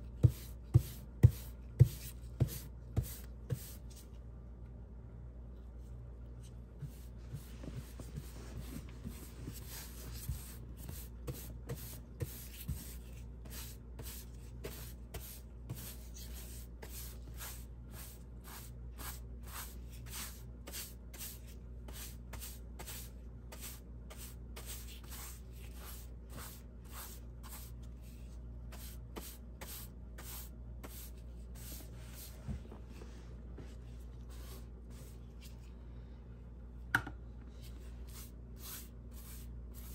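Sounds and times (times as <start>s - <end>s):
steady low hum: 0.0s - 39.9s
paintbrush swishing on wall: 0.2s - 4.1s, 6.8s - 35.6s, 37.6s - 39.9s.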